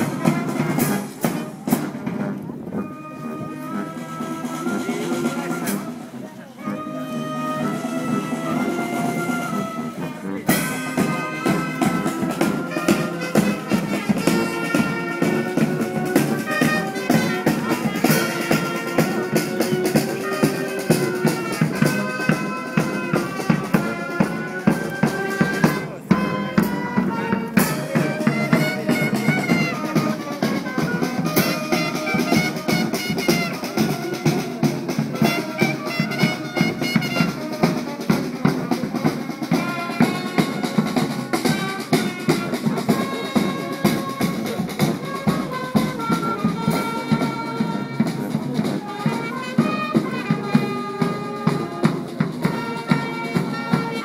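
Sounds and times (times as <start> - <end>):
brass melody: 0.0 - 54.0
marching drums: 0.0 - 54.0.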